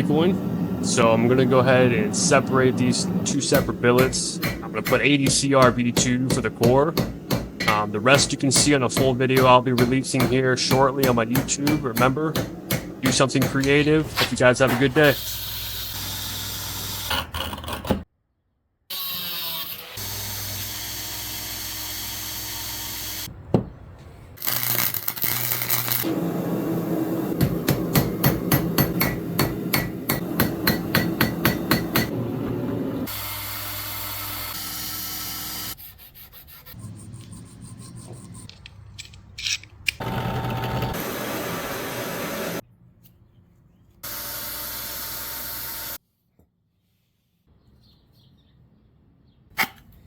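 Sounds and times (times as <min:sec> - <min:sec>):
workshop noise: 0:00.0 - 0:18.1, 0:20.0 - 0:46.0.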